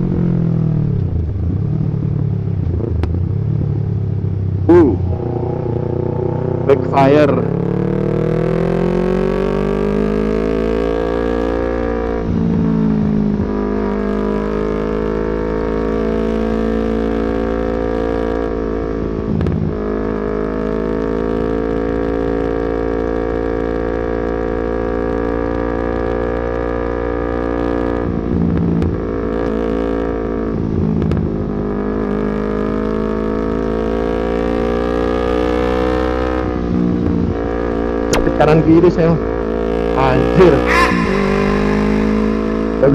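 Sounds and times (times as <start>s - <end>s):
motorcycle engine and exhaust: 0.0s - 42.9s.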